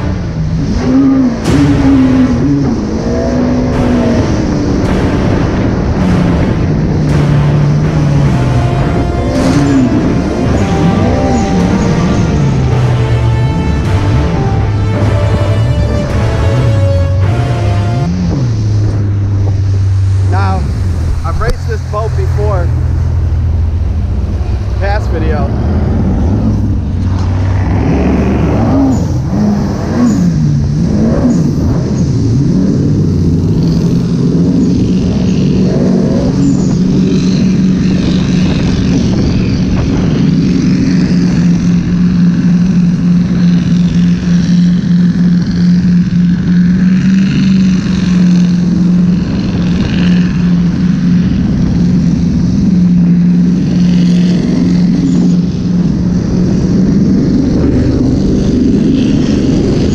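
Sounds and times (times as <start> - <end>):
personal watercraft engine running: 0.0 - 59.9.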